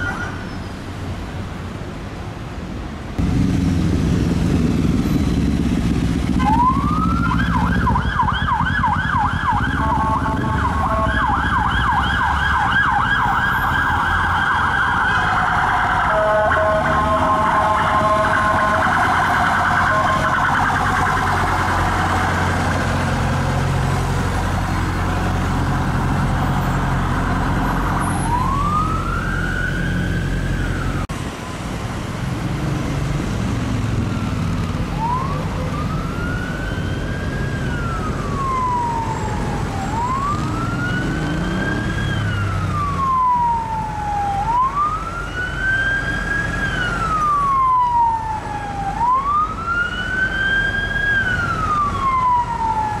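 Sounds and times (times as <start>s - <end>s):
engine and road rumble: 0.0s - 53.0s
police siren wailing: 5.2s - 31.6s, 34.6s - 53.0s.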